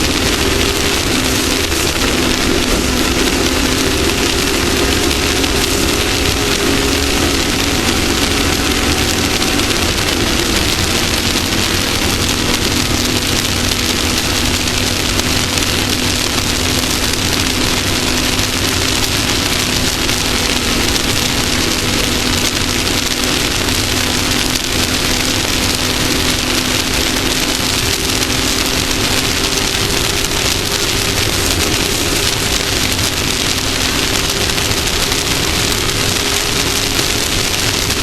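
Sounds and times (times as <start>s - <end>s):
race vehicle engine under load: 0.0s - 38.0s
wind and terrain noise: 0.0s - 38.0s.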